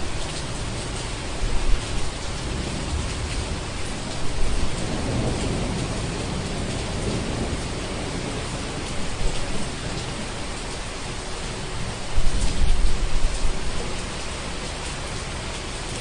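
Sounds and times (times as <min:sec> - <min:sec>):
low thunder rumble: 0:00.0 - 0:14.1
heavy rain: 0:00.0 - 0:16.0.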